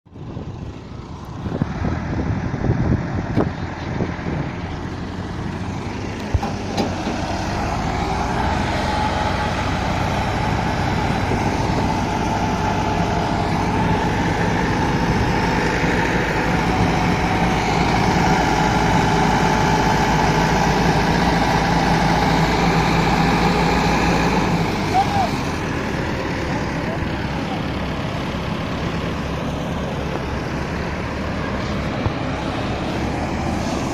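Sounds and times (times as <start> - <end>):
tractor engines straining: 0.1 - 33.9.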